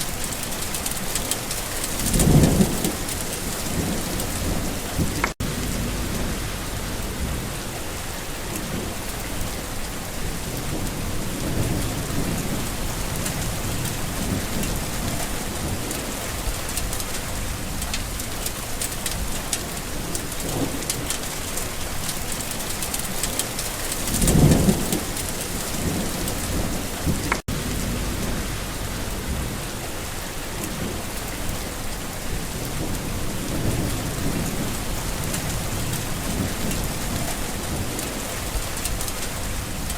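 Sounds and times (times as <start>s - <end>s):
rain pattering: 0.0s - 39.9s
thunder rumbling: 0.0s - 39.9s.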